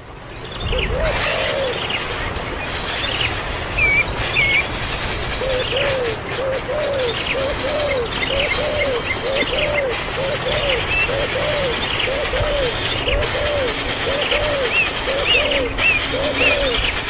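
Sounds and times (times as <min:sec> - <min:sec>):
birds calling low arched calls: 0:00.0 - 0:17.0
higher bird chirps: 0:00.0 - 0:17.0.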